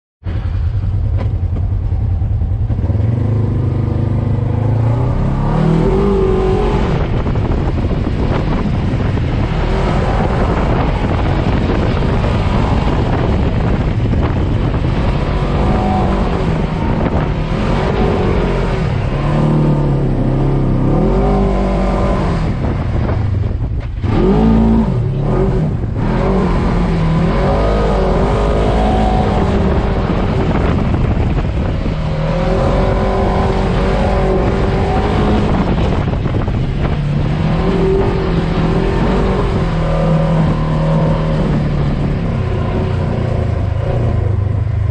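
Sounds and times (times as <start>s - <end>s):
engine revving: 0.3s - 44.9s.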